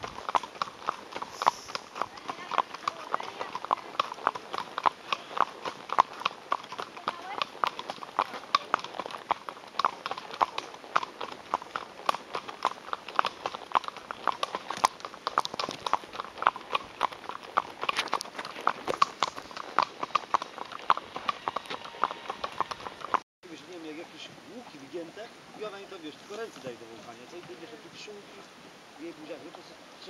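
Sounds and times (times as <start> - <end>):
horse hooves clip-clopping on asphalt: 0.0 - 23.2, 23.8 - 29.7.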